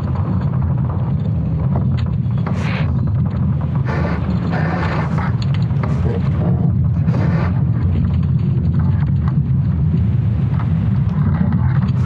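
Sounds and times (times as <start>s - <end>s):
deep rumble: 0.0s - 12.0s
noisy high flares: 0.0s - 12.0s.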